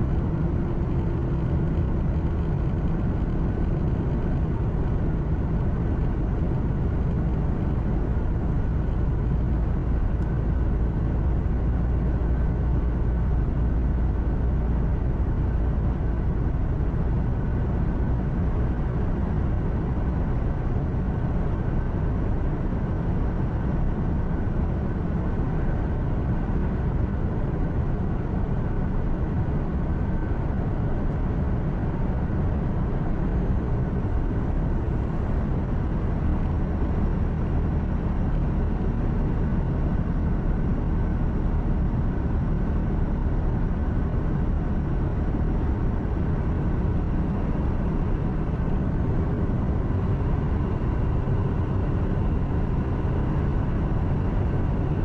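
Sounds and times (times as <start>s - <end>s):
faint steady whine: 0.0s - 55.0s
road noise: 0.0s - 55.0s
truck engine drone: 0.0s - 55.0s.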